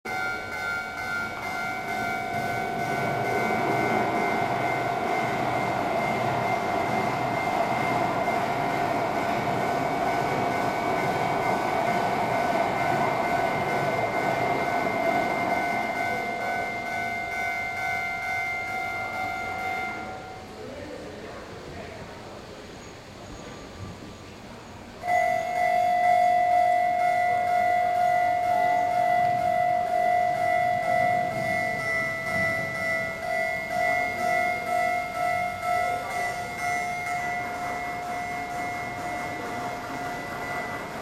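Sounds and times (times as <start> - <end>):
model train whine and rumble: 0.1 - 41.0.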